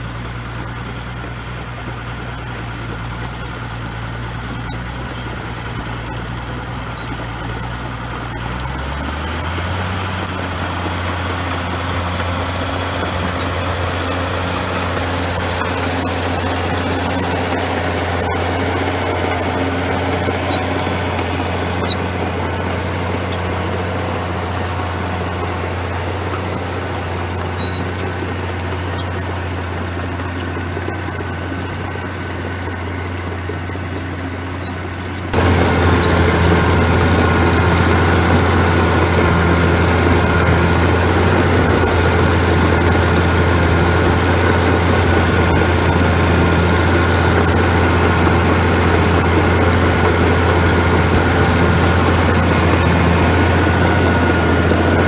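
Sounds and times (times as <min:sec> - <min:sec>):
crawler diesel engine under load: 0:00.0 - 0:55.0.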